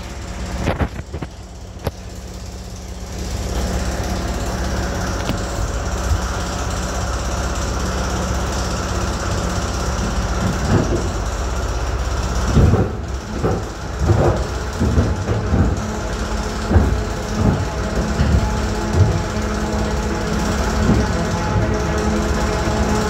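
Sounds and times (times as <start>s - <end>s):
train electrical hum: 0.0s - 23.0s
train knocks and rumbles: 0.0s - 23.0s.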